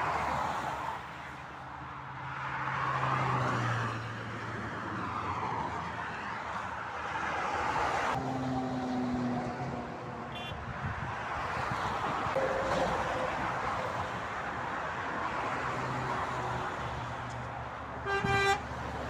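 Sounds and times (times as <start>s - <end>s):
vehicles passing at speed: 0.0s - 19.0s.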